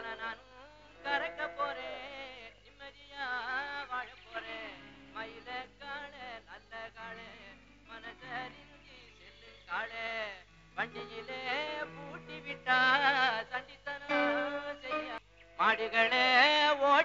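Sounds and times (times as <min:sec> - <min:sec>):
person singing ornamented phrases: 0:00.0 - 0:17.0.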